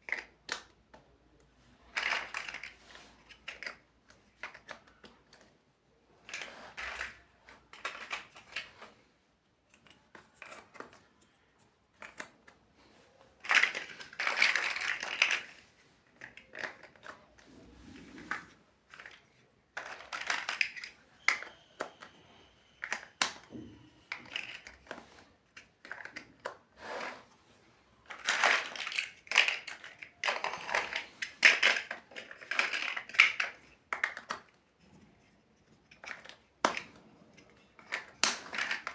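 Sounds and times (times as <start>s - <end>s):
plastic blocks clicking and rattling: 0.0s - 5.6s, 6.2s - 27.3s, 28.0s - 38.9s.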